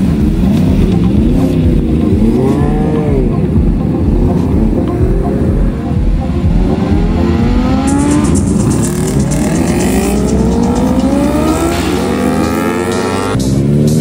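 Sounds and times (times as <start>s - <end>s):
motorcycles accelerating: 0.0s - 14.0s.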